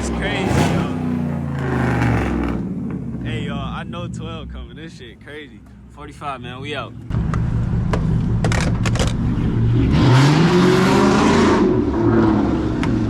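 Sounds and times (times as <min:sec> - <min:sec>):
car engine accelerating: 0:00.0 - 0:04.8, 0:07.0 - 0:13.0.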